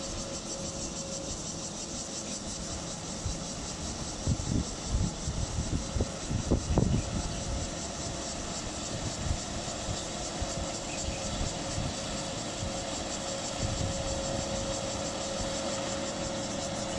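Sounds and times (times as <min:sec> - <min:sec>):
harvester mechanical drone: 0:00.0 - 0:16.9
steady whine: 0:00.0 - 0:16.9.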